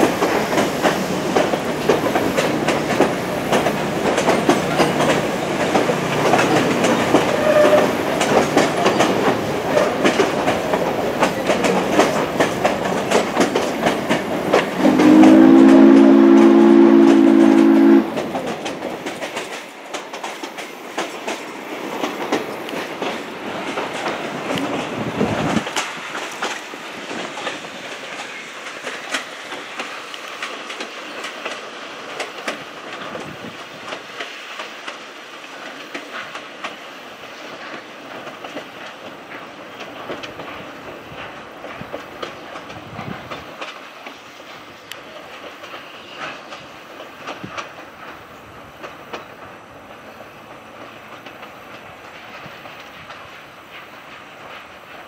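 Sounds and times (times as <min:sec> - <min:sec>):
train wheels clicking over rail joints: 0:00.0 - 0:55.0.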